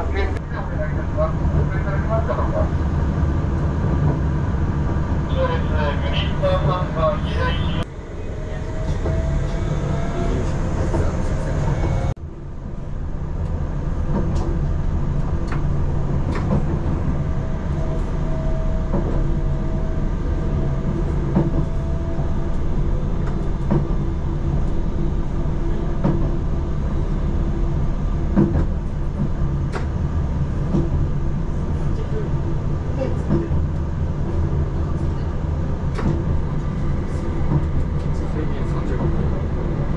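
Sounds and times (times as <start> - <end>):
tram rumbling on track: 0.0 - 39.9.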